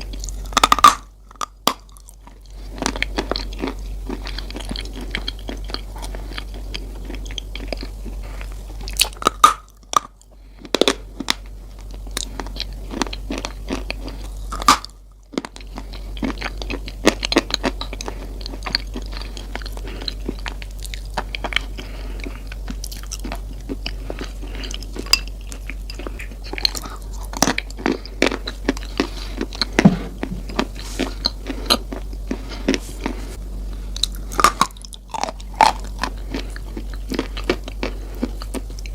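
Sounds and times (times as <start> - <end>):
chewing crunchy cereal: 0.0 - 38.9
steady low hum: 0.0 - 38.9.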